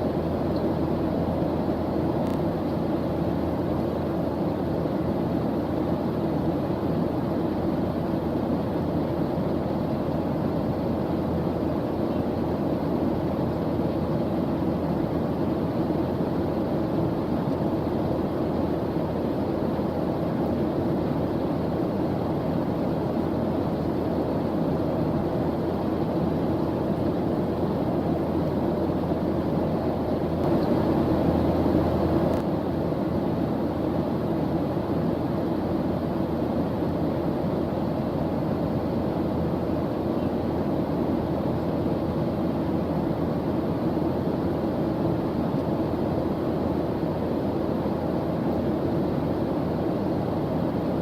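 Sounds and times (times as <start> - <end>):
deep white noise hiss: 0.0 - 51.0.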